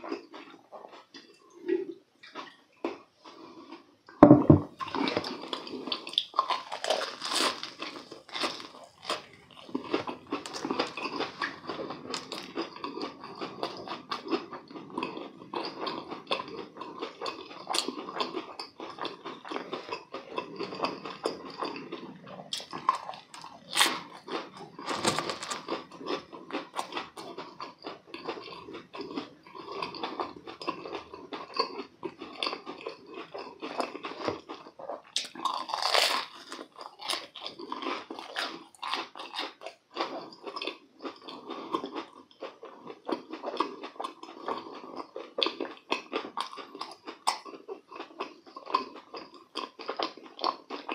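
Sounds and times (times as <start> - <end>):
crunchy chewing: 0.0 - 3.9, 4.7 - 50.9.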